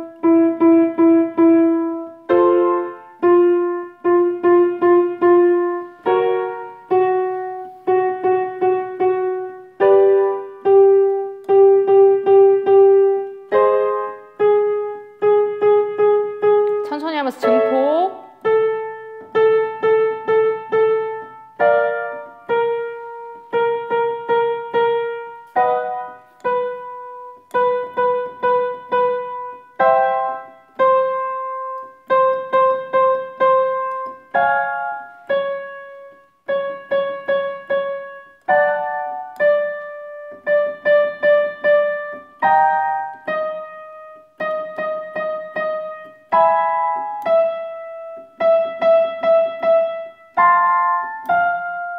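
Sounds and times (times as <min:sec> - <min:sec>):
piano playing notes and chords: 0:00.0 - 0:51.9.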